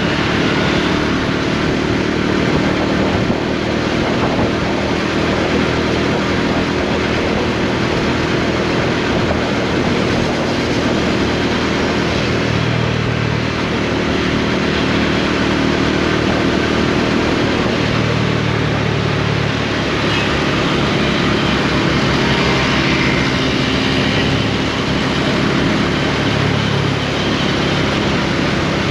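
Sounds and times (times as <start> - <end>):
motorcycle engine running: 0.0 - 28.9
road noise: 0.0 - 28.9
wind noise: 0.0 - 28.9.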